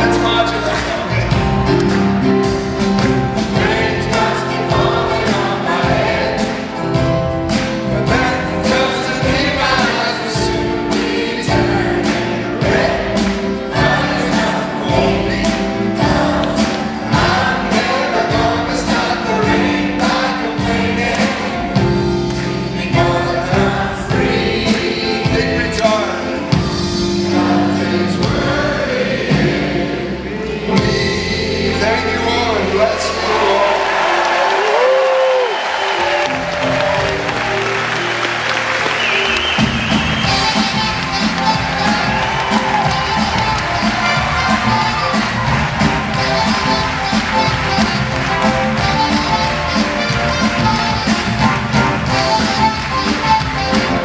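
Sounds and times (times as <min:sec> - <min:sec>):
drum kit beat: 0:00.0 - 0:30.0, 0:30.6 - 0:31.9, 0:39.2 - 0:54.0
singers in harmony: 0:00.0 - 0:51.3
live pop band playing: 0:00.0 - 0:54.0.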